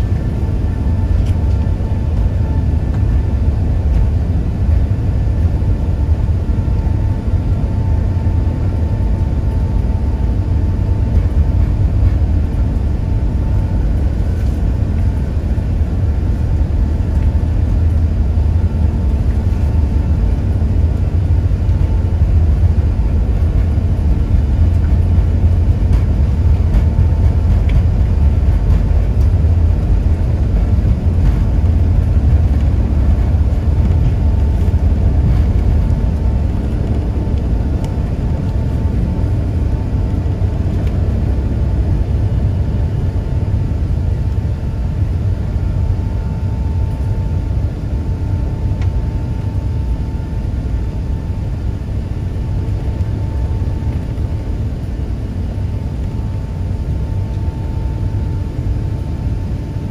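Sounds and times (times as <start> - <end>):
faint steady whine: 0.0 - 59.9
jet engine low rumble: 0.0 - 59.9.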